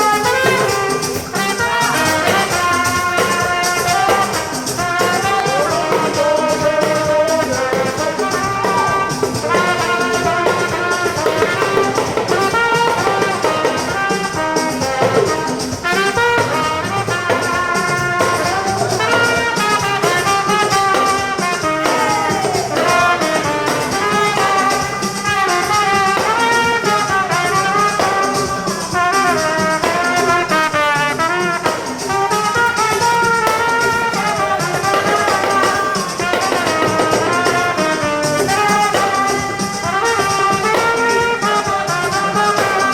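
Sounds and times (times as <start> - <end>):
brass music over steady beat: 0.0 - 42.9.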